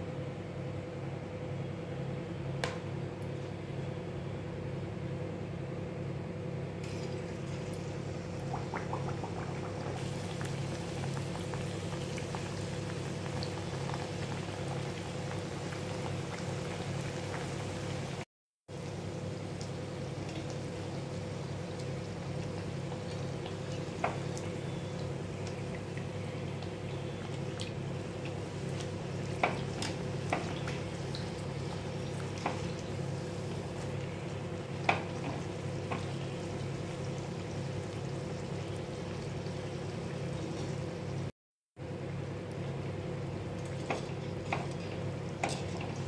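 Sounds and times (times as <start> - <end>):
oil sizzling and bubbling: 6.5 - 46.0.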